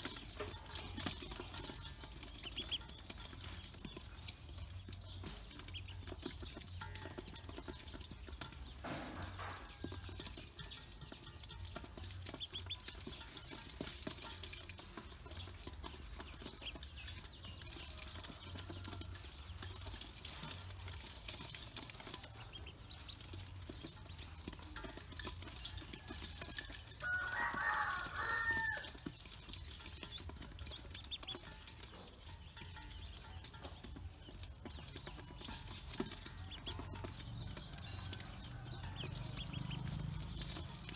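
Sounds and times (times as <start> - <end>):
ducklings peeping: 0.0 - 40.9.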